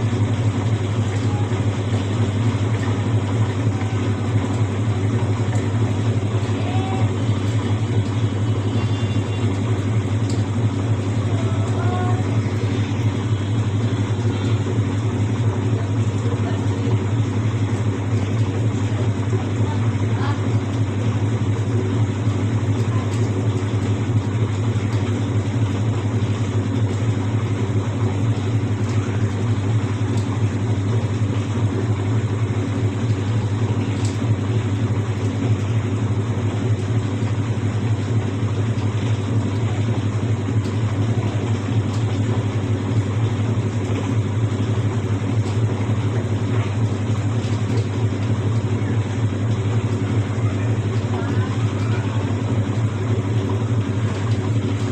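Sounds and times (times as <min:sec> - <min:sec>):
washing machine spinning hum: 0:00.0 - 0:54.9.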